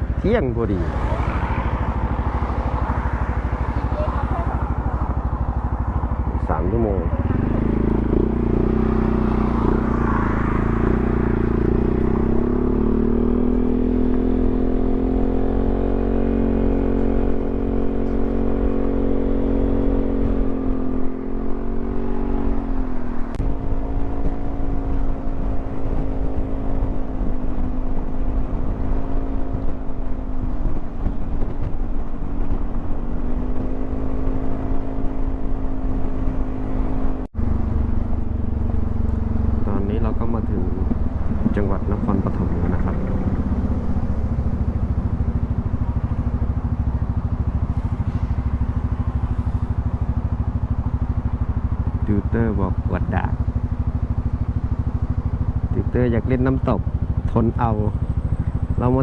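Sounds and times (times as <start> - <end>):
low rumble of wind and road: 0.0 - 59.0
scooter engine running: 0.0 - 59.0.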